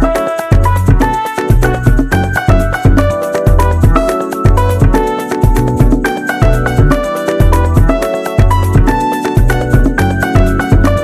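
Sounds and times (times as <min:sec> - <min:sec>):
music with bass beat: 0:00.0 - 0:11.0.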